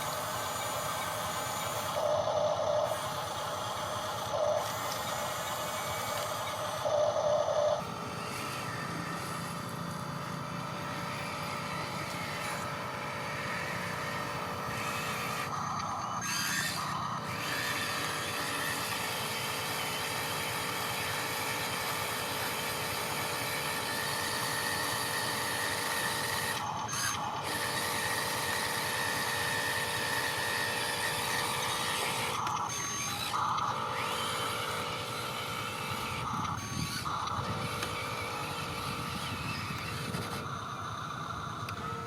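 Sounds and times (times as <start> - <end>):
electric motors whining: 0.0 - 42.0.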